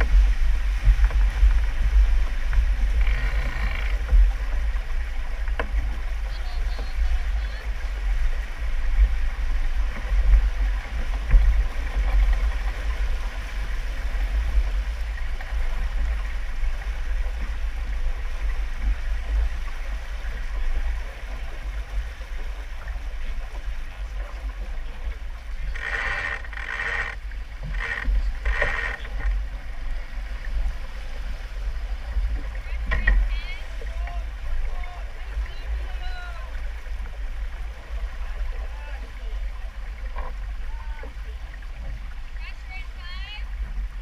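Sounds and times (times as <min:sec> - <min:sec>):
water rushing along hull: 0:00.0 - 0:44.0
wind buffeting microphone: 0:00.0 - 0:44.0.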